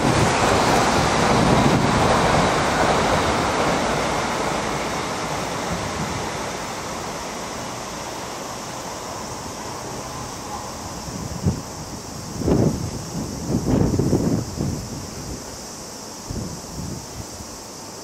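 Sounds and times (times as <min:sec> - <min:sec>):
train passing with rushing noise: 0:00.0 - 0:18.0.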